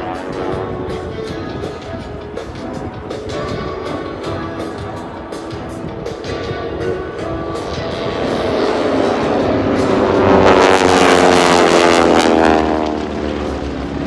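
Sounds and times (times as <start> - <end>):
propeller aircraft flying by: 0.0 - 14.0.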